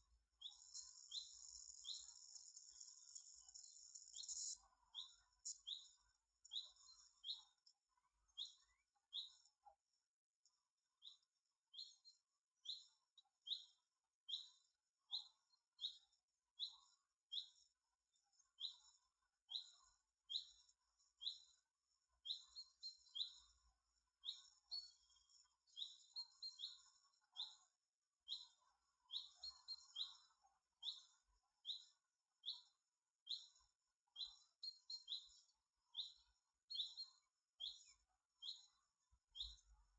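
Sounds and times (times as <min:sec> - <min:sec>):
bird chirping: 0:00.0 - 0:09.5, 0:11.0 - 0:17.7, 0:18.4 - 0:21.6, 0:22.2 - 0:23.6, 0:24.2 - 0:39.9.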